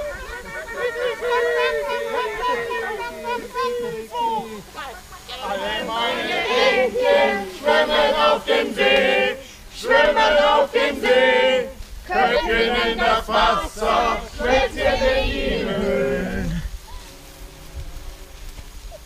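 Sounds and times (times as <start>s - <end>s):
group of voices singing: 0.0s - 4.7s, 5.3s - 16.7s.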